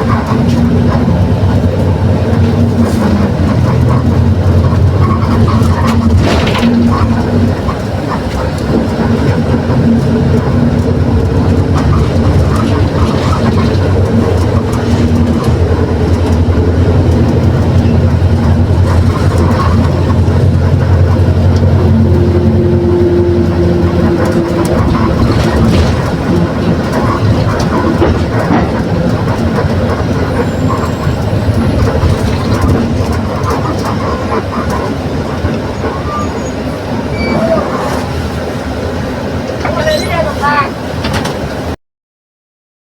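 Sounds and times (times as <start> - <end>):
bus engine droning: 0.0 - 41.8.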